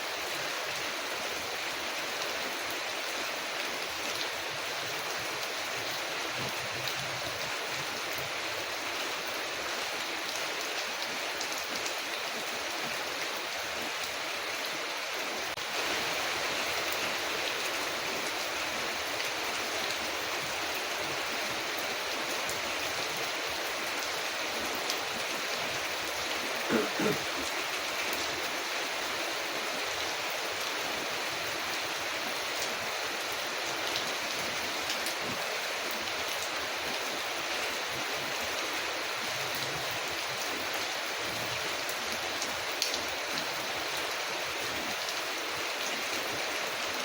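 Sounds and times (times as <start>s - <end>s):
rain on a window: 0.1s - 47.0s.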